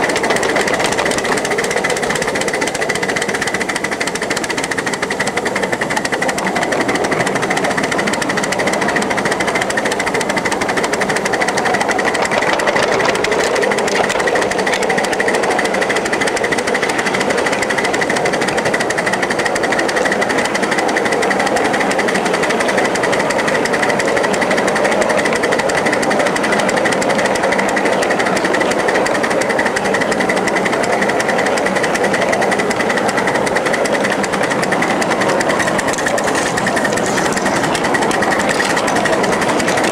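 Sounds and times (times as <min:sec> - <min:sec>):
steam locomotive rattling beat: 0:00.0 - 0:39.9.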